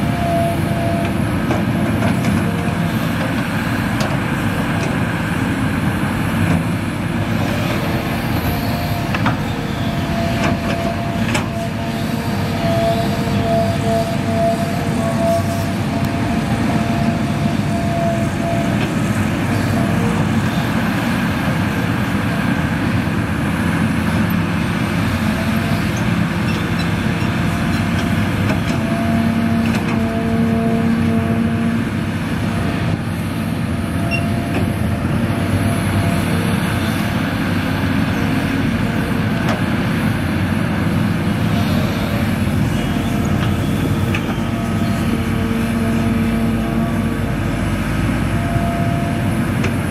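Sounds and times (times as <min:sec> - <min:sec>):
diesel engines running: 0:00.0 - 0:49.9.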